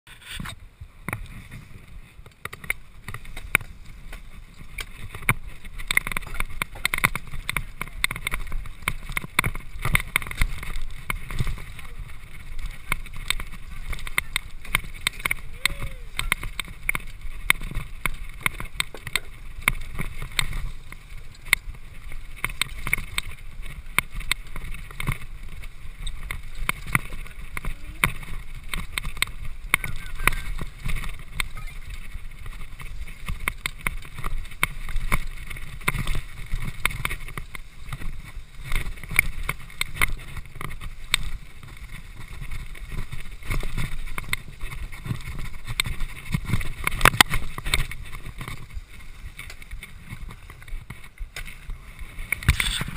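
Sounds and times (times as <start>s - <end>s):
wheels knocking and rattling: 0.1s - 52.9s.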